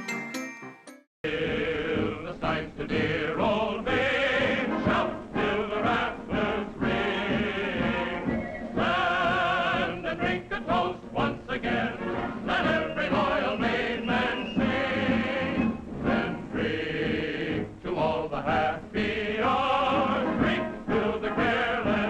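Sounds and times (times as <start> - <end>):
voices singing with accompaniment: 1.3 - 22.0.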